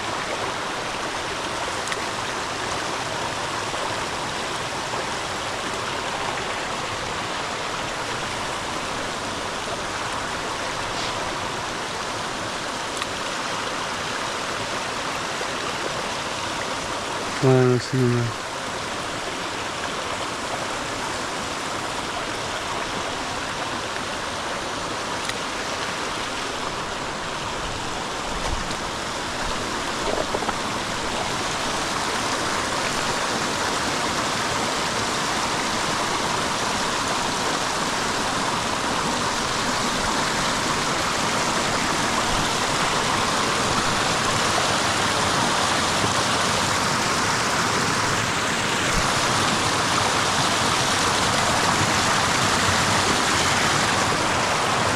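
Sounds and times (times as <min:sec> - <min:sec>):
creek water flowing over stones: 0:00.0 - 0:54.9.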